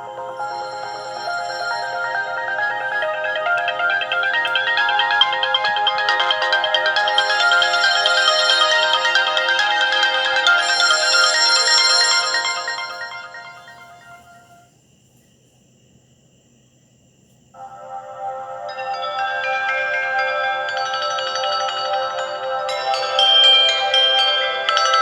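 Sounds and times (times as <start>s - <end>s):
electronic ringtone melody: 0.0s - 14.6s, 17.6s - 25.0s.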